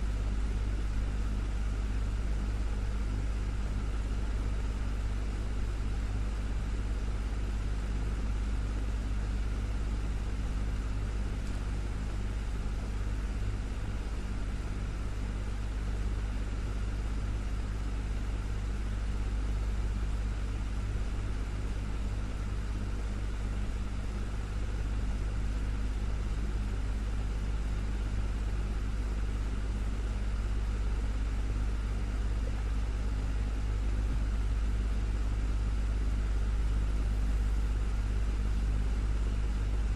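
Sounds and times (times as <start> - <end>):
desktop fan running: 0.0 - 39.9.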